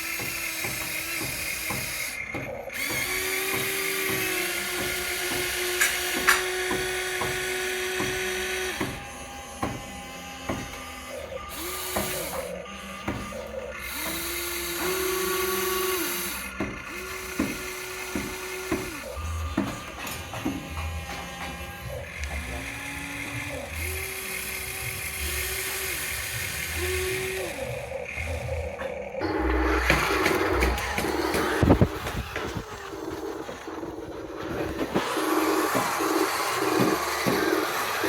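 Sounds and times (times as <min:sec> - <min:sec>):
small electric motors whirring: 0:00.0 - 0:38.0.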